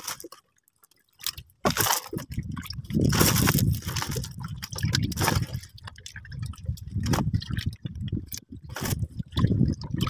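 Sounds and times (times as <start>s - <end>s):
wet fish slapping: 1.2s - 10.0s.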